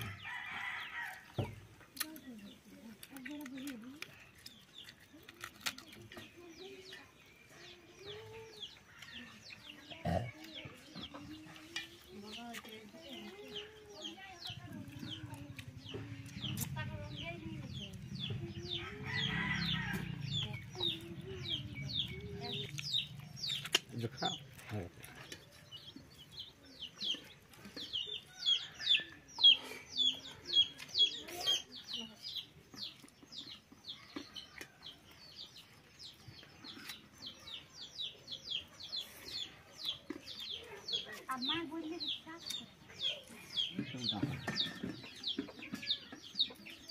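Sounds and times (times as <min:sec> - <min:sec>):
bird chirping: 0:00.0 - 0:46.9
chickens clucking: 0:00.0 - 0:46.9.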